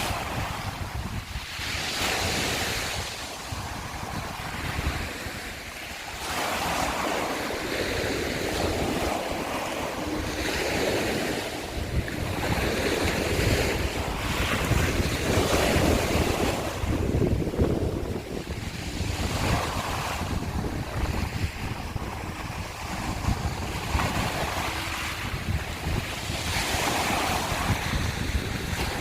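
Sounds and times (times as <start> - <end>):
waves washing over shells: 0.0 - 29.0
wind rumble on microphone: 0.0 - 29.0.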